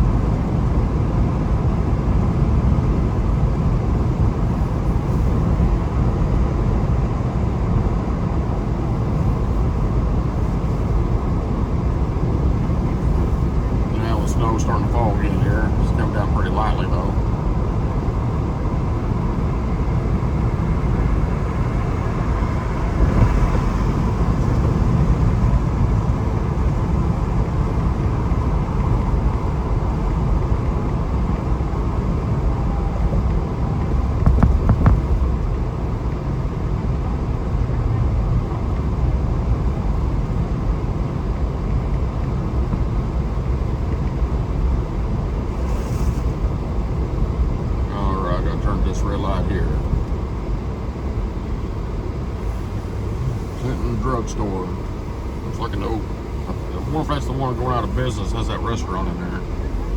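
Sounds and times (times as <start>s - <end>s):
road and engine rumble inside vehicle: 0.0s - 59.9s.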